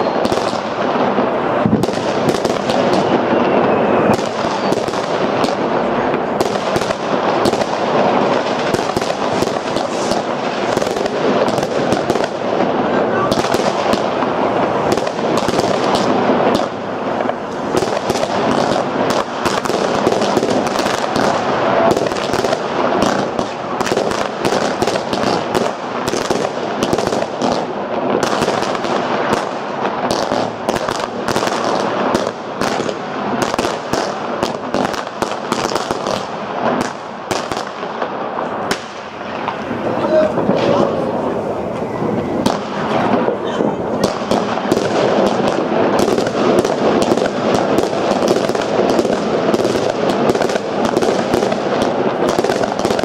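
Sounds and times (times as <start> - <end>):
fireworks bangs: 0.0 - 53.0
fireworks crackling rumble: 0.0 - 53.0.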